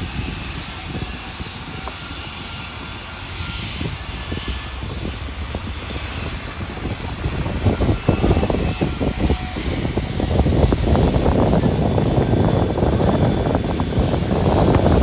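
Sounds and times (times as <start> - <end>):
steam locomotive chuffing: 0.0 - 15.0.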